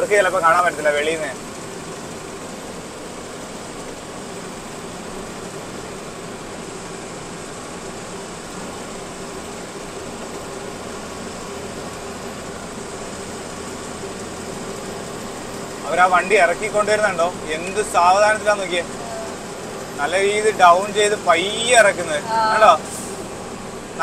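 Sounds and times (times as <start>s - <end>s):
lorry engine drone: 0.0s - 24.0s
road noise hiss: 0.0s - 24.0s.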